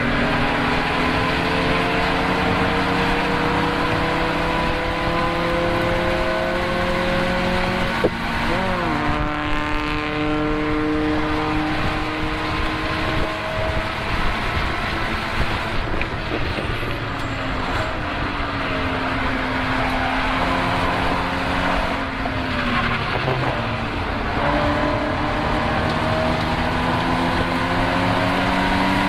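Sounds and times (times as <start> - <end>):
car engine at speed: 0.0 - 29.0
road and wind noise: 0.0 - 29.0.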